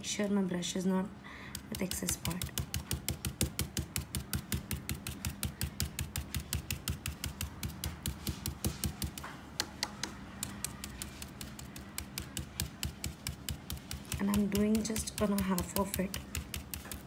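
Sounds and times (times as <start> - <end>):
stencil brush tapping: 1.5 - 17.0.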